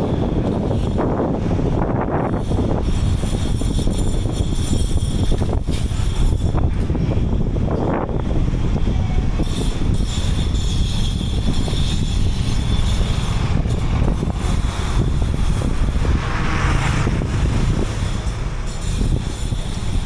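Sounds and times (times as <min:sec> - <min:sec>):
street traffic: 0:00.0 - 0:20.0
wind buffeting microphone: 0:00.0 - 0:20.0.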